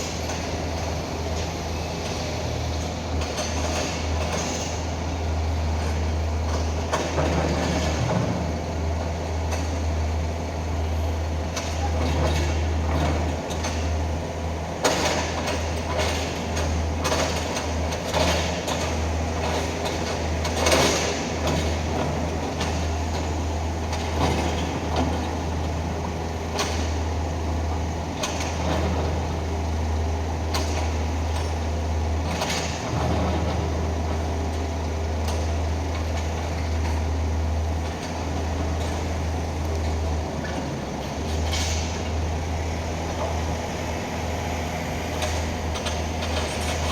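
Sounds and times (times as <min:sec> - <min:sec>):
mini excavator engine running: 0:00.0 - 0:46.9.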